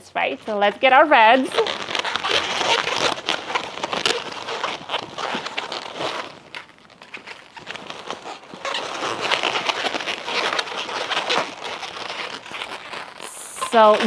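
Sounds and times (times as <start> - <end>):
balloons squeaking and rubbing: 0.0 - 14.0.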